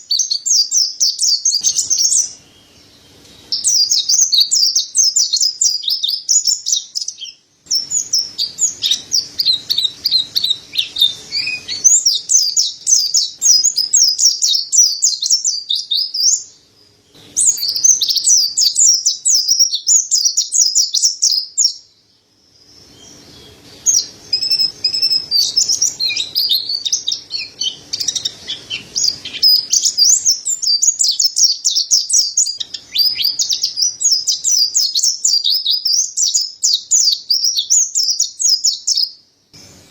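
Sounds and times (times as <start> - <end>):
bird twittering chirp song: 0.0 - 39.9.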